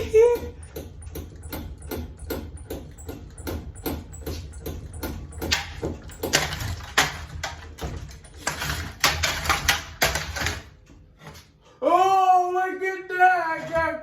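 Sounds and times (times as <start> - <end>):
ceiling fan knocking and rattling: 0.0 - 11.6.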